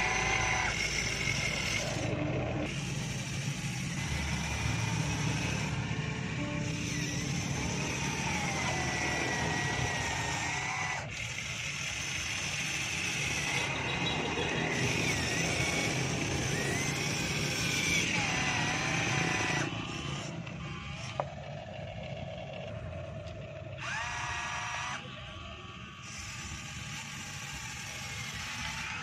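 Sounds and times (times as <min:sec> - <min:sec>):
model excavator motors whining: 0:00.0 - 0:29.0.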